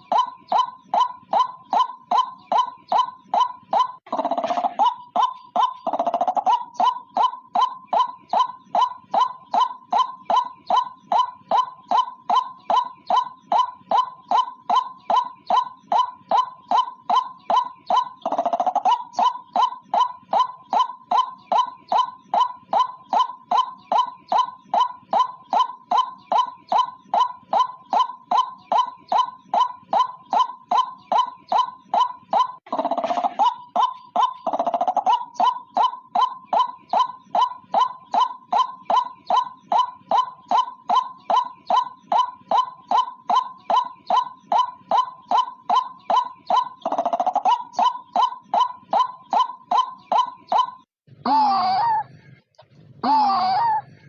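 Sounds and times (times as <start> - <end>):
longer lower bird call: 0.0 - 50.9
waterhen calling sharp notes: 0.0 - 52.4.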